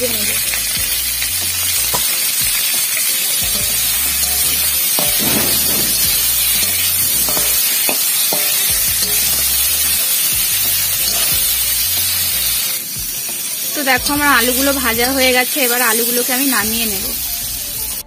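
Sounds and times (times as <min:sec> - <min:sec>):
background music with bass: 0:00.0 - 0:02.7, 0:03.4 - 0:07.8, 0:08.6 - 0:13.2, 0:13.9 - 0:15.4, 0:16.6 - 0:18.0
potatoes sizzling in hot oil: 0:00.0 - 0:18.0.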